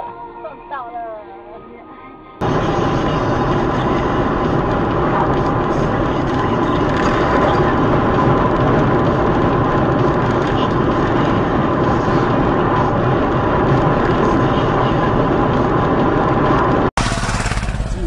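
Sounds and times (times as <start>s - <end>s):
car cruising road and engine noise: 2.4s - 18.0s.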